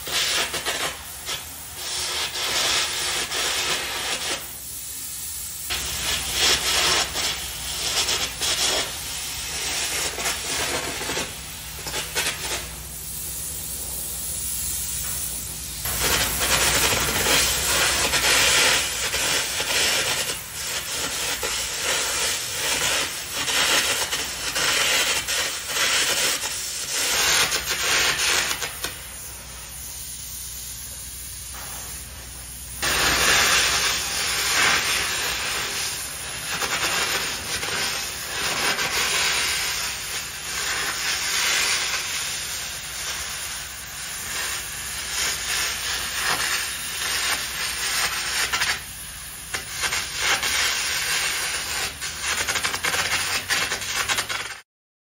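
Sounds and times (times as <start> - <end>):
arc gouging crackling hiss: 0.0 - 54.6.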